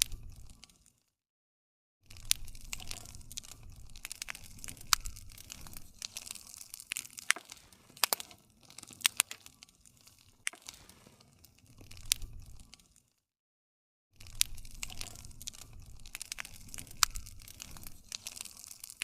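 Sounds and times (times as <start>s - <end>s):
campfire crackling: 0.0s - 0.8s, 2.1s - 13.0s, 14.2s - 19.0s
low rumble of flames: 0.0s - 0.8s, 2.1s - 13.0s, 14.2s - 19.0s.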